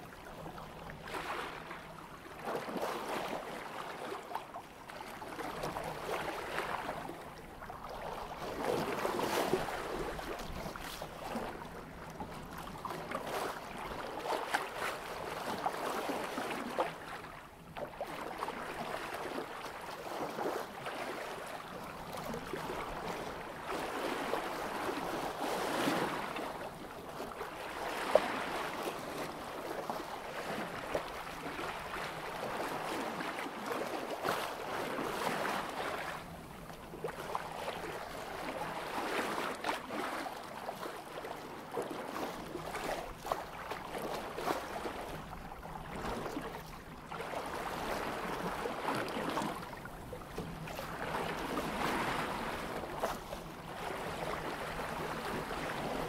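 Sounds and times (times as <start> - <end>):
water splashing along boat hull: 0.0 - 56.0.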